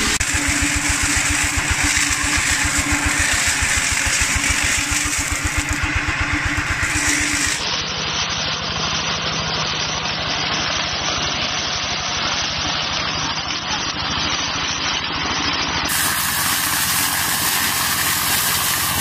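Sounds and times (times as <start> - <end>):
small tractor engine running: 0.0 - 19.0.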